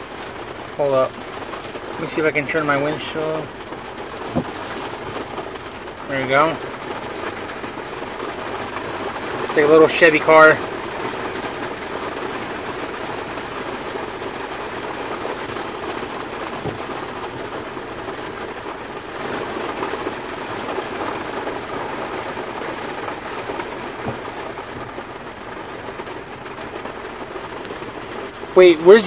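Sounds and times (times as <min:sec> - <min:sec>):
truck cab rushing noise while driving: 0:00.0 - 0:29.0.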